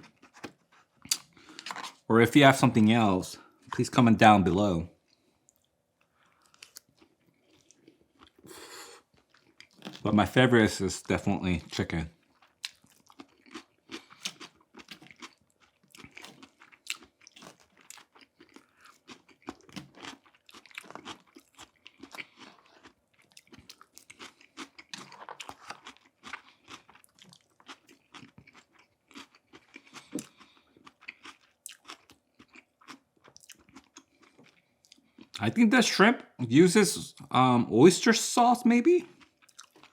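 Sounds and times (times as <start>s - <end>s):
crunchy food chewing: 0.0s - 2.1s, 5.0s - 10.4s, 11.0s - 35.5s, 39.0s - 39.9s.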